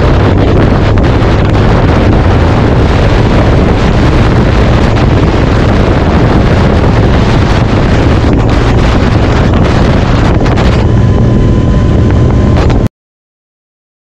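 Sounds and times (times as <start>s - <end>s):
low rumble: 0.0s - 12.9s
wind buffeting microphone: 0.0s - 12.9s.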